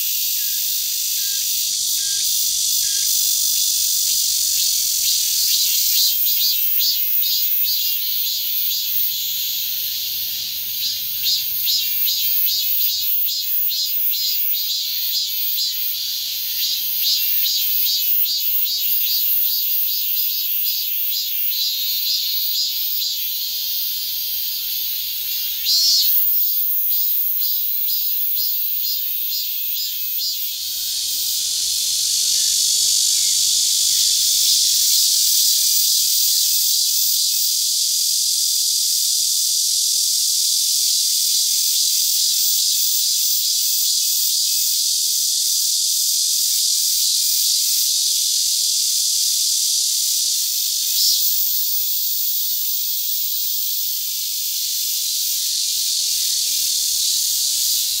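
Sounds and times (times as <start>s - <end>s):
cicada buzzing shrilly: 0.0s - 58.0s.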